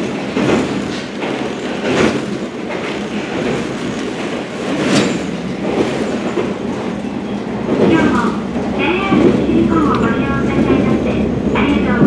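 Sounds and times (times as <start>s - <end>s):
rumble of wheels on rails: 0.0s - 12.0s
wheels clacking over rail joints: 0.0s - 12.0s.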